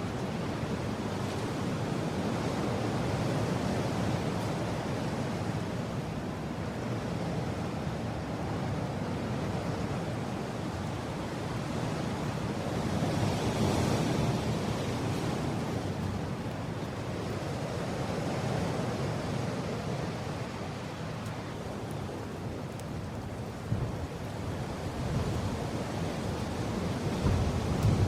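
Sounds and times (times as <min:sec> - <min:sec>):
strong wind blowing: 0:00.0 - 0:28.0.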